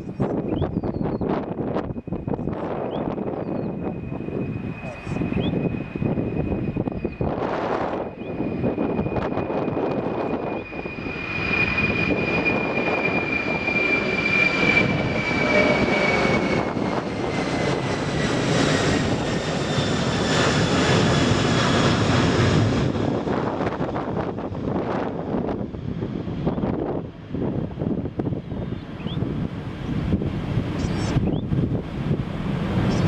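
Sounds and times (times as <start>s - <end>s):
jet airliner engines passing: 0.0s - 33.0s.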